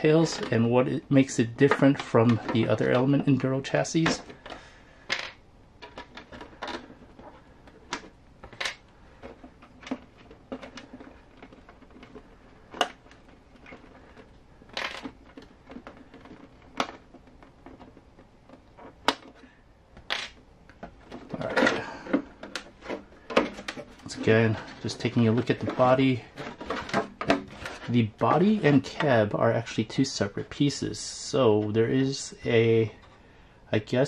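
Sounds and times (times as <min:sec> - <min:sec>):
hands handling plastic toy parts: 0:00.0 - 0:29.4.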